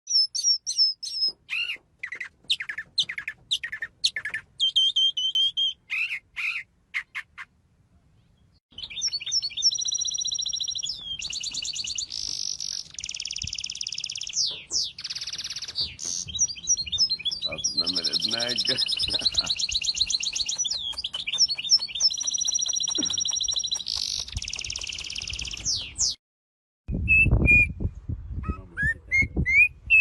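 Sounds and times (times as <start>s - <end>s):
songbird singing: 0.1s - 26.2s.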